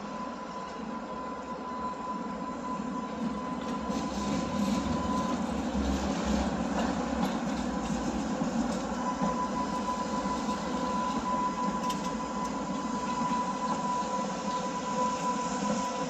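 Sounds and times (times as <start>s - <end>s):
electric tram rolling on rails: 0.0s - 16.0s.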